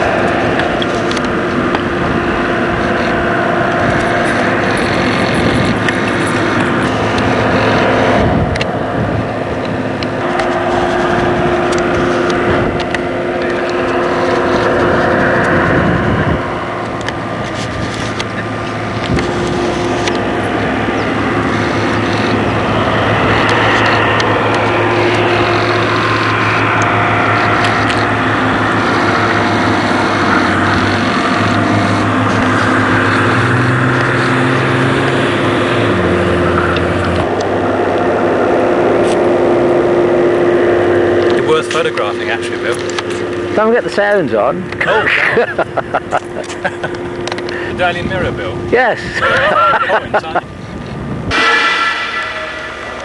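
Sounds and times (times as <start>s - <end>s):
jet engines whining: 0.0s - 53.0s
low hum: 0.0s - 53.0s.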